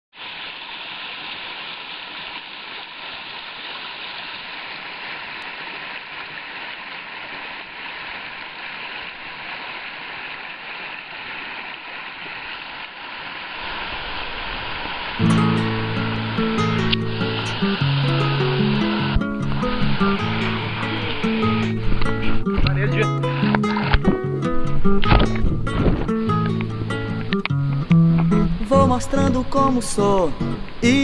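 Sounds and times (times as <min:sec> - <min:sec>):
stream rushing over rocks: 0:00.1 - 0:31.0.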